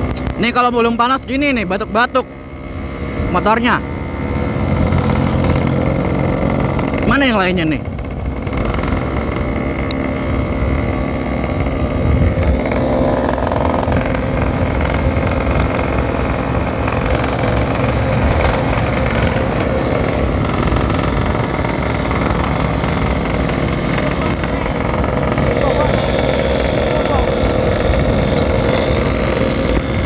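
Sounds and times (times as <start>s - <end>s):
two-stroke motorcycle engine running: 0.0s - 30.0s.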